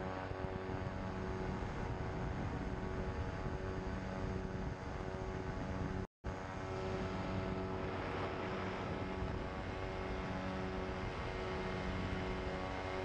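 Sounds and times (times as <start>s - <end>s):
ultralight engine and propeller droning: 0.0s - 13.0s.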